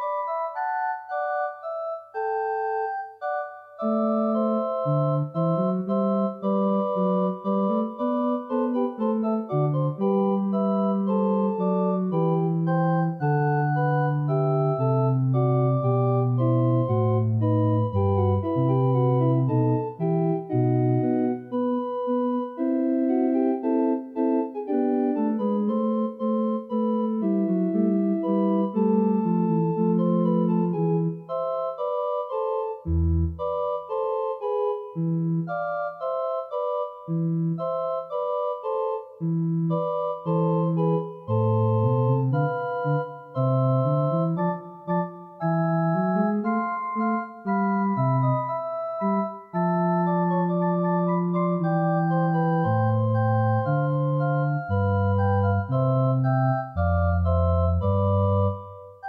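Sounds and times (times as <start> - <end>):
pipe organ chords: 0.0 - 59.0.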